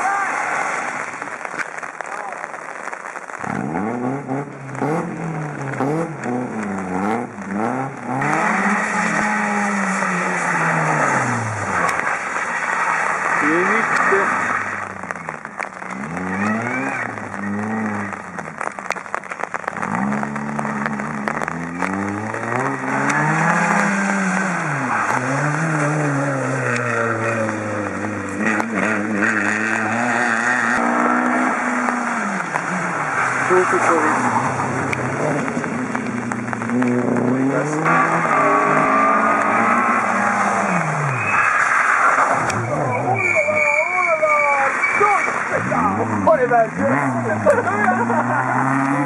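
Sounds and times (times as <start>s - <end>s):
rally car engine revving: 0.5s - 49.0s
road and tyre noise hiss: 3.4s - 49.0s.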